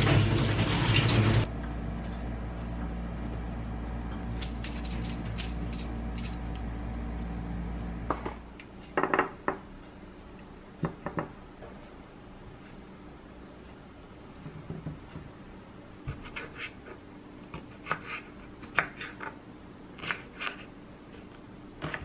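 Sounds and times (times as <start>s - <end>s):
steady low hum: 1.4s - 22.0s.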